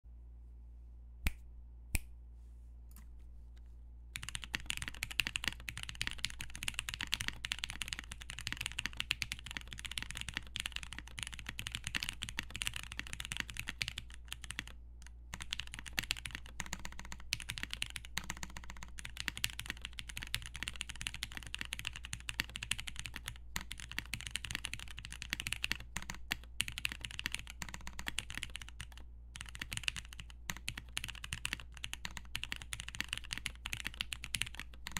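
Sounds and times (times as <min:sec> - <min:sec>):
mechanical keyboard typing: 0:04.2 - 0:34.9.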